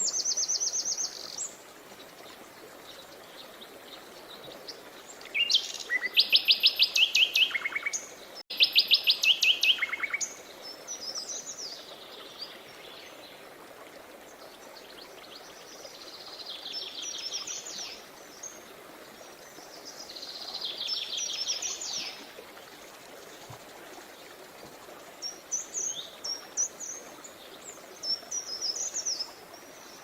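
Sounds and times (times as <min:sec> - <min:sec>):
songbirds singing: 0:00.0 - 0:13.5, 0:14.2 - 0:30.0
river water flowing: 0:00.0 - 0:30.0.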